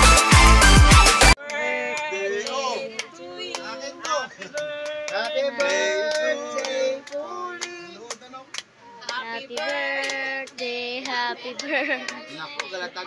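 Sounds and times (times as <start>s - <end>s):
hand claps: 0.0s - 12.8s
voices singing together: 0.0s - 13.0s.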